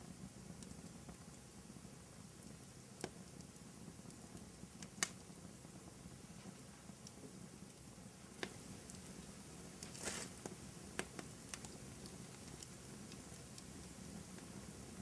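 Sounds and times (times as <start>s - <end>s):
low steady fire rumble: 0.0s - 15.0s
wood fire crackling and popping: 0.0s - 15.0s.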